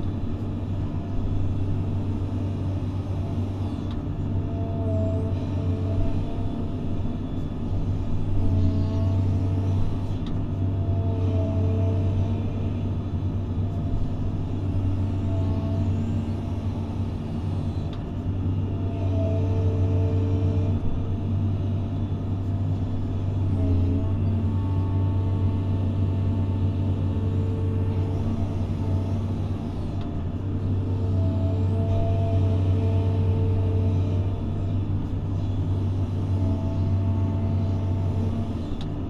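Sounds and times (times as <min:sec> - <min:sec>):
diesel engine running under load: 0:00.0 - 0:39.0
hydraulic whine: 0:00.0 - 0:39.0.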